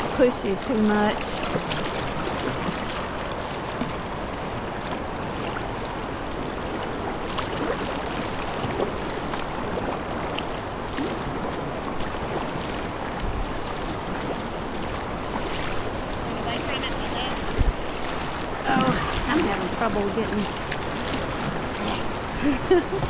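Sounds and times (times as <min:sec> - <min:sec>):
paddle splashes: 0:00.0 - 0:23.0
river water rushing over rapids: 0:00.0 - 0:23.0.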